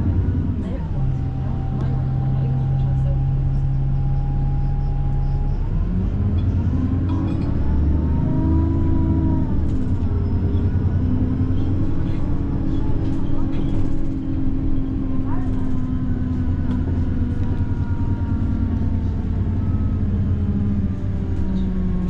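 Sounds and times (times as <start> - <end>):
bus engine drone and whine: 0.0 - 22.0.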